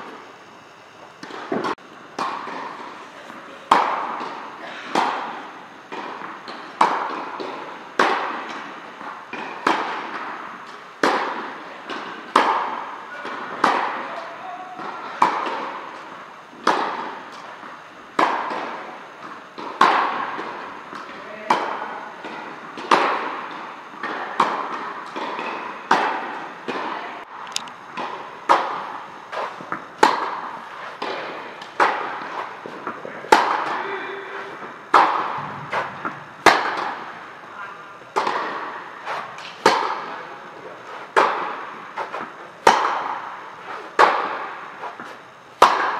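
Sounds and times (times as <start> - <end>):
tennis racket hitting balls: 1.2 - 3.0, 3.6 - 37.5, 38.1 - 45.9.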